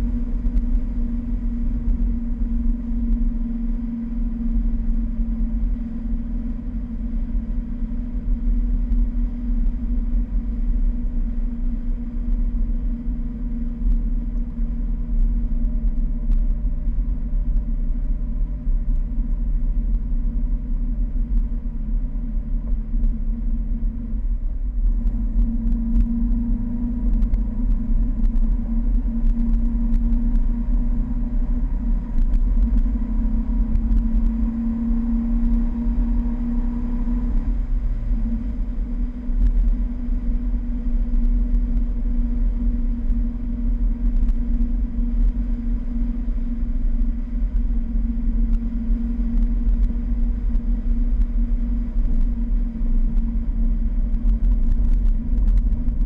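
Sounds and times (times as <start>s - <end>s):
car engine running: 0.0s - 56.0s
wind rumble on microphone: 0.0s - 56.0s.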